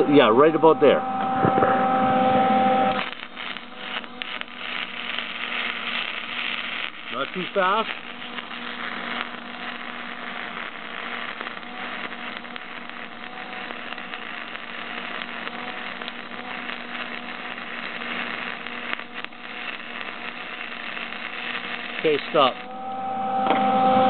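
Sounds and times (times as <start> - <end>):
low hum: 0.0 - 22.0, 22.6 - 24.0
welding arc crackling and hissing: 0.0 - 24.0.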